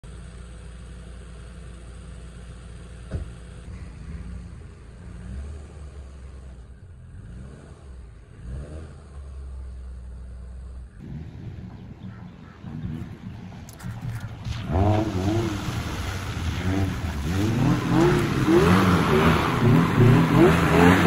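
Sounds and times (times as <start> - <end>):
car engine running and revving: 0.0 - 21.0.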